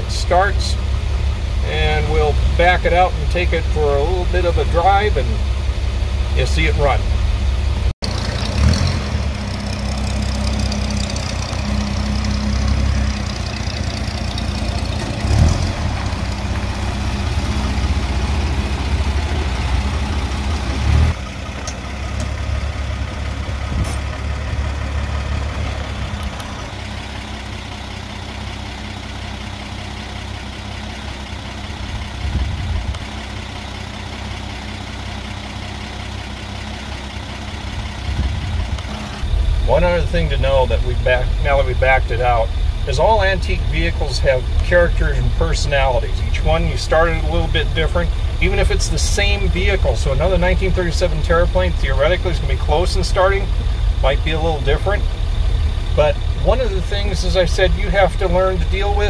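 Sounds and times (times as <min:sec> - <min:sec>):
pickup engine running: 0:00.0 - 0:59.0.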